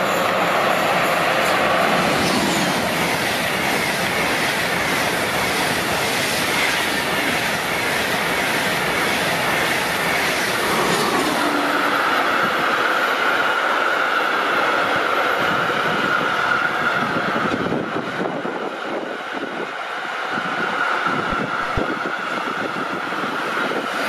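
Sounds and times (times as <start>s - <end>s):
freight train running by: 0.0s - 24.0s
train passing at speed: 0.0s - 24.0s.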